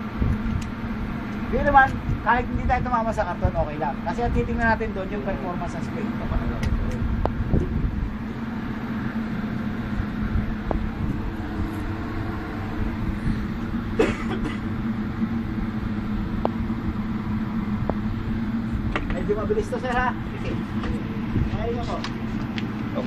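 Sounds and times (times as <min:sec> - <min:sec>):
low mechanical drone: 0:00.0 - 0:23.0.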